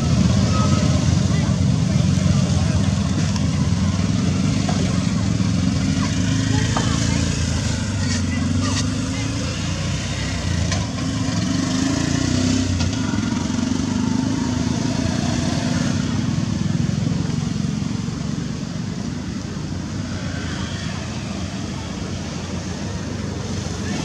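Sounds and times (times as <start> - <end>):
motor traffic rumble: 0.0 - 24.0.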